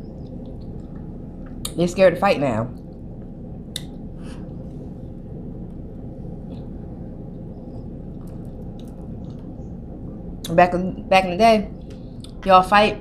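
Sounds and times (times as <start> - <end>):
faint hum: 0.0 - 13.0
low background rumble: 0.0 - 13.0.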